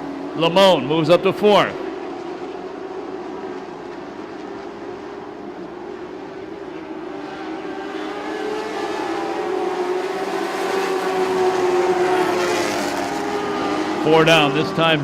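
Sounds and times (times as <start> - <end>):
racing car engines whining: 0.0 - 15.0.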